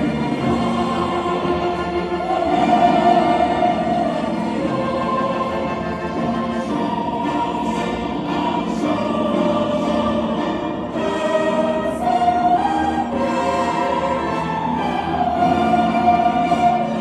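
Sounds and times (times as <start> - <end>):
choir singing: 0.0 - 17.0
orchestra playing: 0.0 - 17.0.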